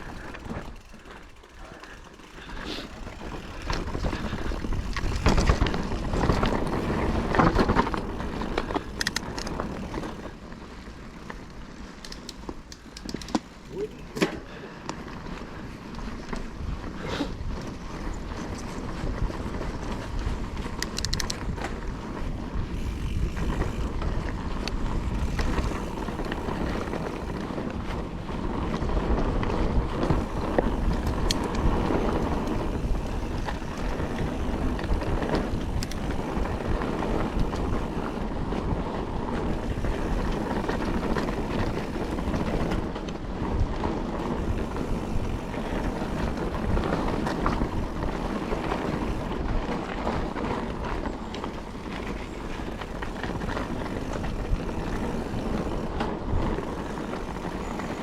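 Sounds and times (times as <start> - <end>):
bike rattling: 0.0 - 58.0
bike tyres rumbling on dirt: 0.0 - 58.0
wind on microphone: 2.5 - 10.3, 16.2 - 58.0.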